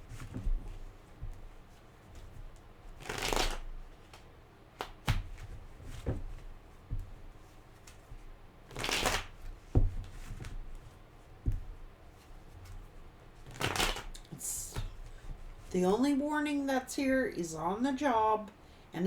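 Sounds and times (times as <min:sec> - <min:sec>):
cards shuffling: 0:00.1 - 0:15.7.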